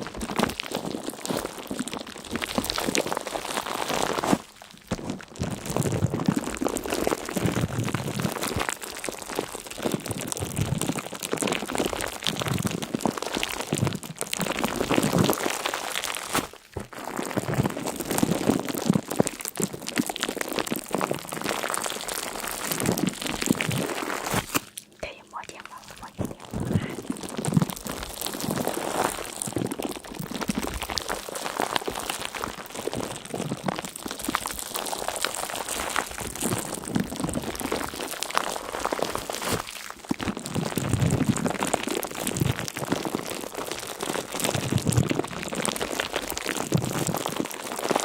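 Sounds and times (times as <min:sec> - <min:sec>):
dense crackling and crinkling: 0:00.0 - 0:48.0.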